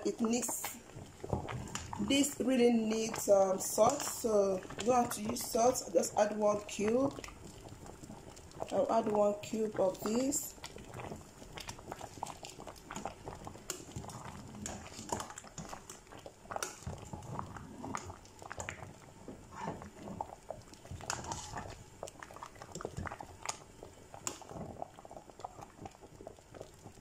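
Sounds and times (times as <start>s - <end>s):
soup simmering: 0.0s - 27.0s.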